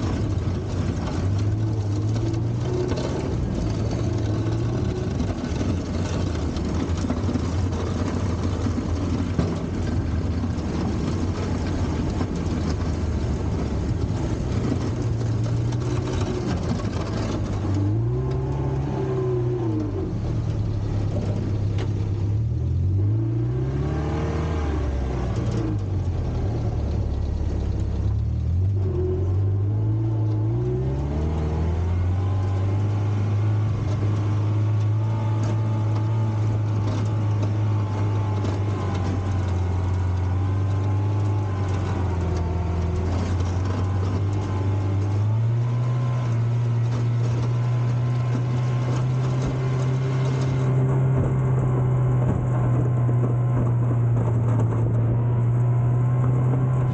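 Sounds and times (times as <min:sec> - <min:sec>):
tractor engine running and revving: 0:00.0 - 0:56.9.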